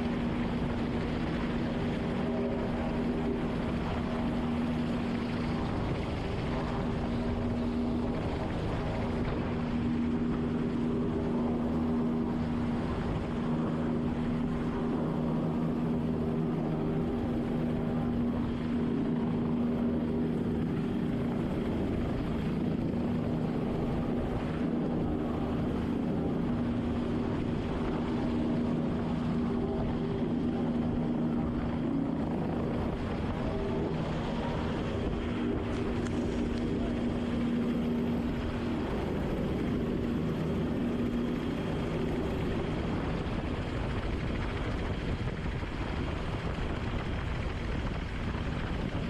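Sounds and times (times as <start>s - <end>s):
helicopter hovering overhead: 0.0s - 49.0s.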